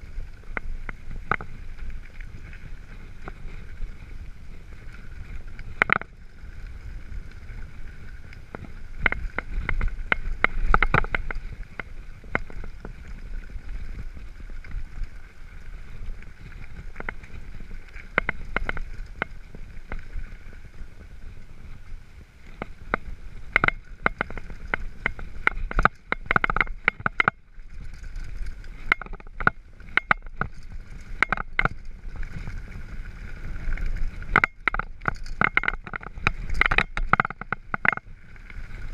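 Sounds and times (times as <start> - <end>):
bike rattling over stones: 0.0 - 38.9
bike tyres rumbling on gravel: 0.0 - 38.9
wind: 0.0 - 38.9.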